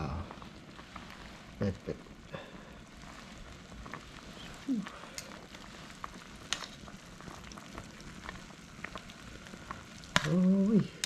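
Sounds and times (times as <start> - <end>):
food sizzling on a stove: 0.0 - 11.0.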